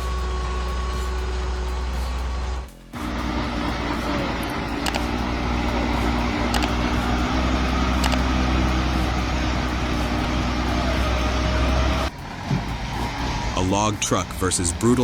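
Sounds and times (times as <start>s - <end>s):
large engine humming: 0.0s - 15.0s.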